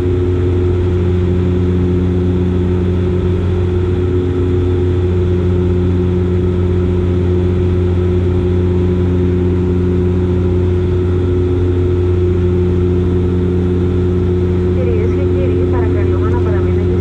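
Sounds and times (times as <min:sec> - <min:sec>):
turboprop aircraft drone: 0:00.0 - 0:17.0.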